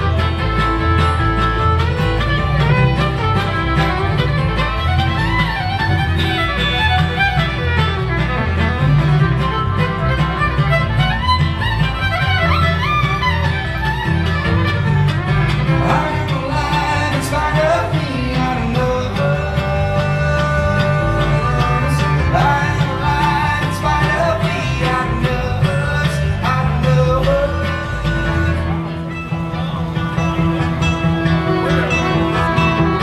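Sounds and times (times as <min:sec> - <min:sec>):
fiddle melody: 0:00.0 - 0:33.0
mandolin: 0:00.0 - 0:33.0
strummed acoustic guitar: 0:00.0 - 0:33.0
upright double bass: 0:00.0 - 0:33.0.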